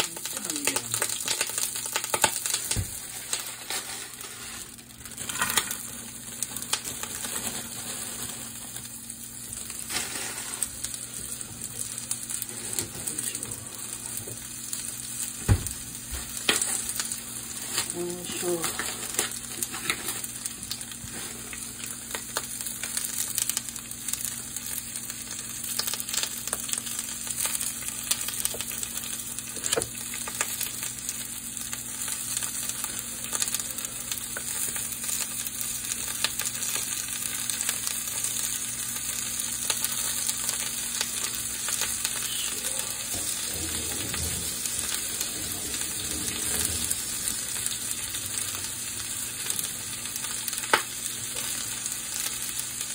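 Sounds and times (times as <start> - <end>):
food sizzling in a frying pan: 0.0 - 52.9.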